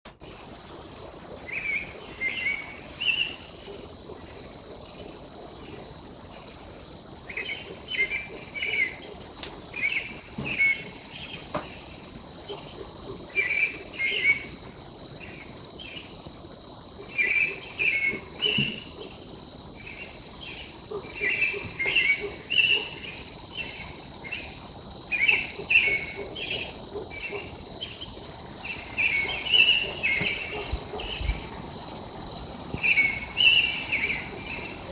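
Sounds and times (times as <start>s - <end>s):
high-pitched insect chorus: 0.1s - 34.9s
songbird singing: 0.4s - 34.9s.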